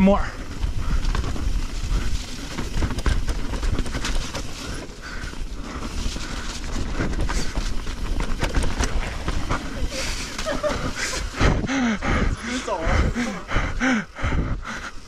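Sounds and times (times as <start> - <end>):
bike rattling and clicking: 0.0 - 12.6
bike tyres on dirt and roots: 0.0 - 15.0
steady low rumble: 0.0 - 15.0.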